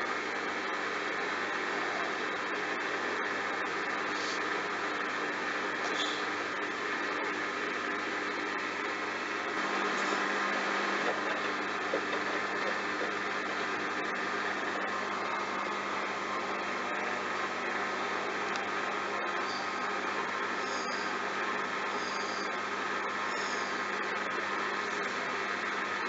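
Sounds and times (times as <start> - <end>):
washing machine hum: 0.0 - 26.0.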